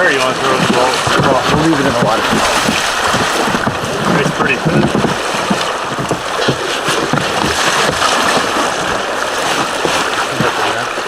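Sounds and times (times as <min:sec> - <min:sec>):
river water rushing and splashing: 0:00.0 - 0:11.0
wind noise on microphone: 0:00.0 - 0:11.0
small irregular knocks: 0:00.1 - 0:09.0.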